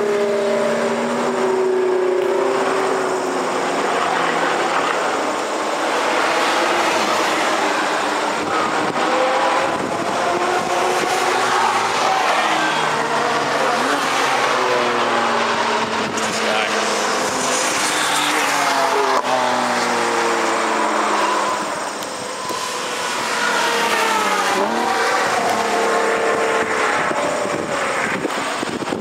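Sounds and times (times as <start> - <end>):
race cars accelerating: 0.0 - 29.0.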